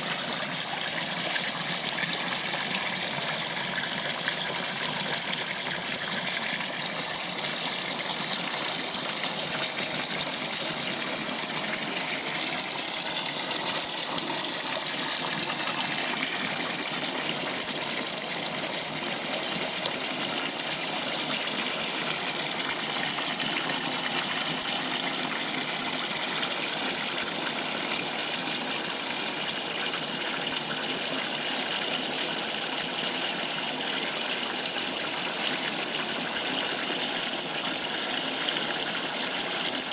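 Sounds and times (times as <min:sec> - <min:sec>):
water gushing into washing machine: 0:00.0 - 0:39.9.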